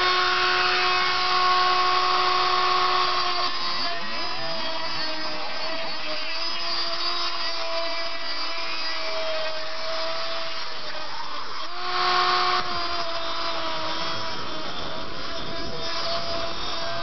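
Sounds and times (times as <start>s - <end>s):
rotary tool grinding metal: 0.0s - 17.0s.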